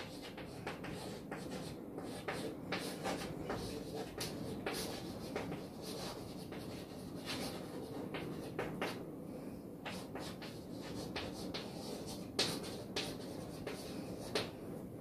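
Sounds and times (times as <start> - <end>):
chalk scratching on chalkboard: 0.0 - 9.0, 9.8 - 14.5.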